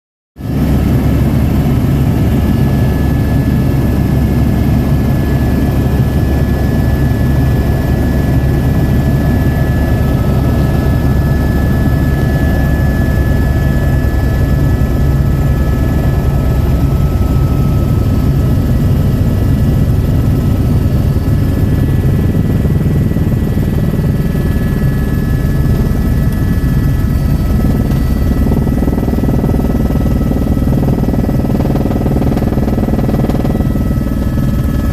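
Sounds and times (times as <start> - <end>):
helicopter rotor chop and whine: 0.4 - 34.9.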